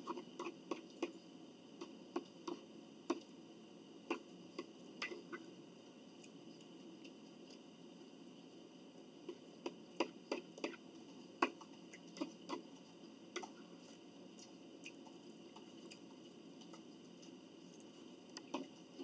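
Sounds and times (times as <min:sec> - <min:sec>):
faint room hiss: 0:00.0 - 0:19.0.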